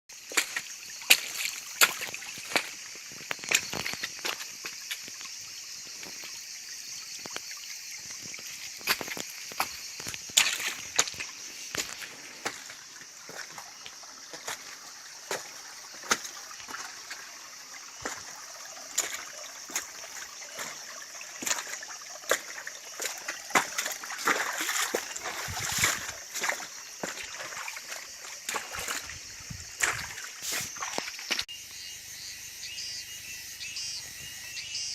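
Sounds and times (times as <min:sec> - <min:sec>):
splashy water-like sounds: 0:00.2 - 0:05.2, 0:07.3 - 0:31.5.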